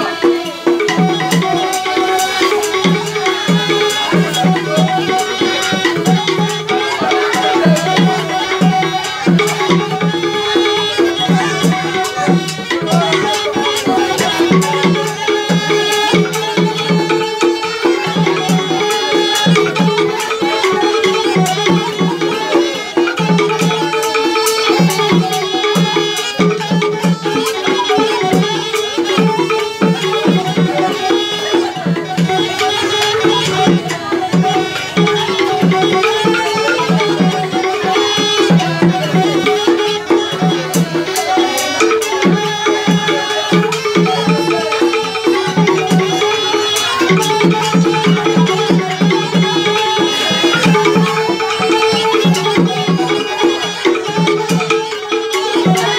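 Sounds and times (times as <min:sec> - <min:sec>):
repeating percussive pulse: 0:00.0 - 0:55.9
wind pipes playing melody: 0:00.0 - 0:55.9
wooden xylophone struck with mallets: 0:00.0 - 0:55.9.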